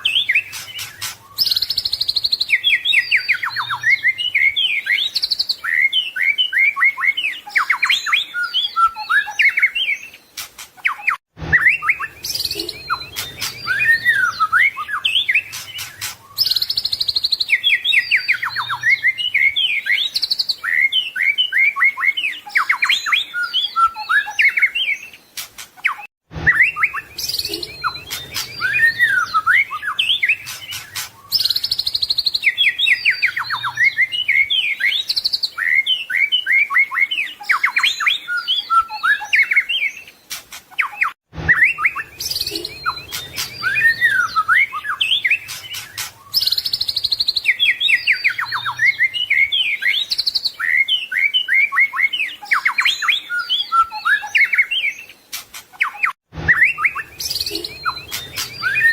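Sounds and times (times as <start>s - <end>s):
bird singing whistles and trills: 0.0s - 58.9s.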